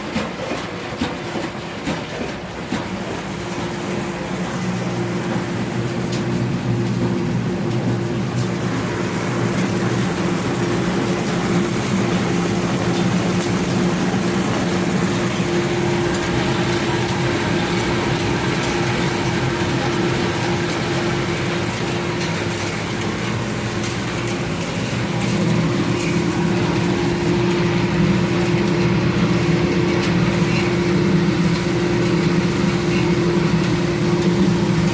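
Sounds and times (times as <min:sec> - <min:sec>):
machinery humming: 0:00.0 - 0:34.9.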